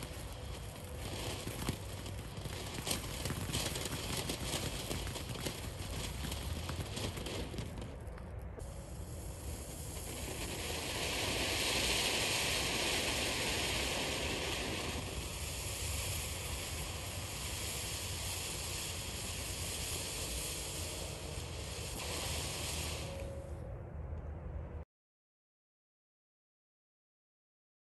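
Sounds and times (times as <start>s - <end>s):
firework hissing sparks: 0.0s - 8.0s, 8.6s - 23.6s.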